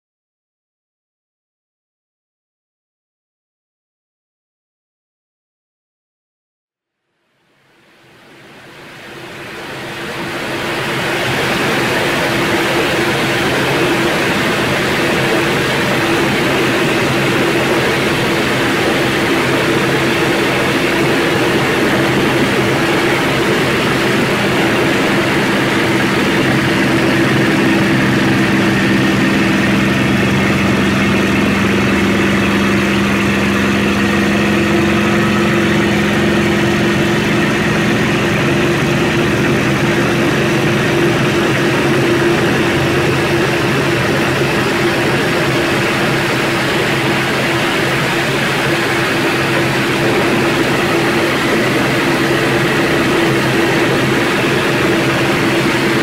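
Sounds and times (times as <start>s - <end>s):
aircraft piston engine running: 8.6s - 56.0s
deeper hum: 10.1s - 56.0s.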